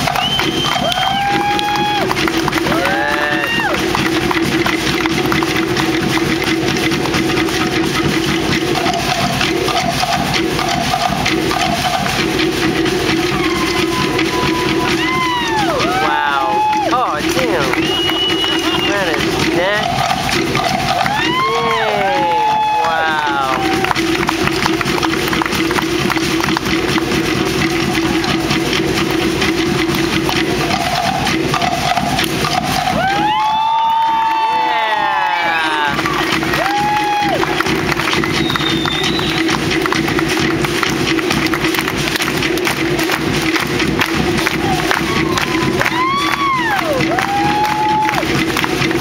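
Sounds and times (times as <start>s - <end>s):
fast drumming: 0.0s - 49.0s
steady held tone: 0.0s - 49.0s.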